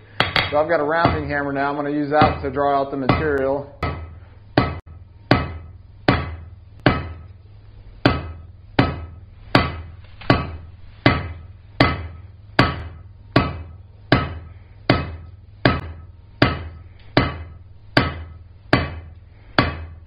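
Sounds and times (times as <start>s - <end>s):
hammer striking steel on anvil: 0.2s - 1.5s, 2.2s - 7.4s, 8.0s - 20.0s.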